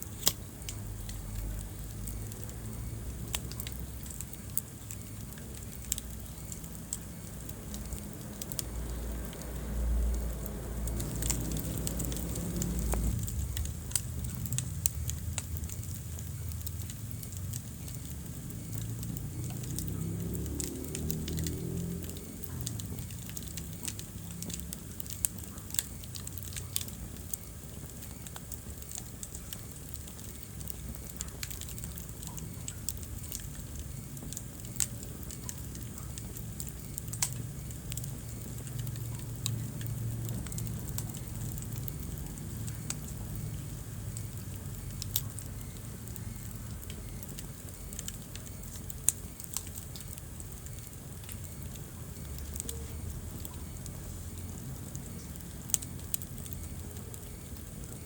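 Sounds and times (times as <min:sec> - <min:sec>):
low steady rumble: 0:00.0 - 0:58.0
wood fire crackling and popping: 0:00.0 - 0:58.0.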